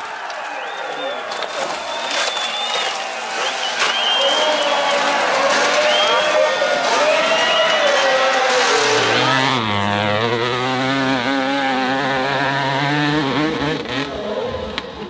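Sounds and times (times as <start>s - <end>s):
dirt bike engine revving: 0.6s - 15.0s.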